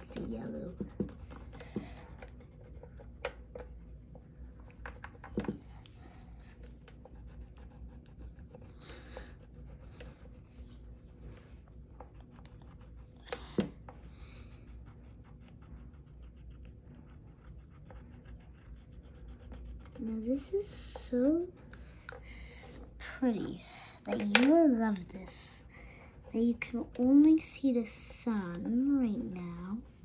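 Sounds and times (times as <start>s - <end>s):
crayon scribbling on paper: 0.0s - 5.4s, 6.5s - 13.2s, 14.7s - 21.7s, 24.8s - 29.8s.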